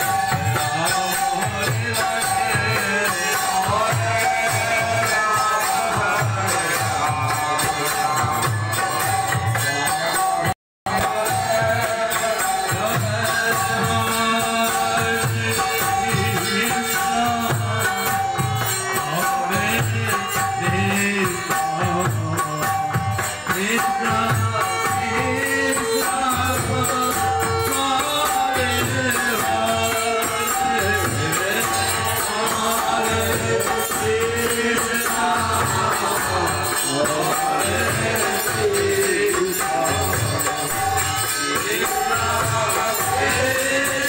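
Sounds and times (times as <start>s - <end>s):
group singing: 0.0s - 44.0s
harmonium chords: 0.0s - 44.0s.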